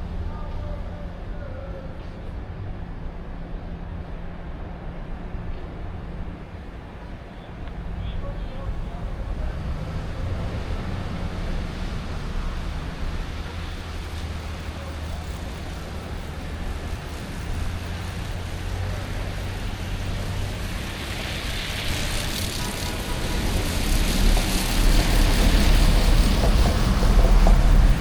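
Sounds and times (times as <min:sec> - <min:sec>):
traffic hum: 0:00.0 - 0:28.0
vehicle rumble and tyre hiss: 0:00.0 - 0:28.0.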